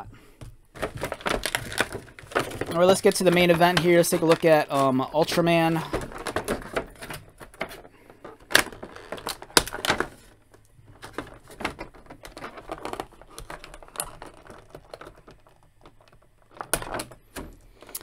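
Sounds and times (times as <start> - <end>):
plastic blister tray crackling: 0.4 - 18.0.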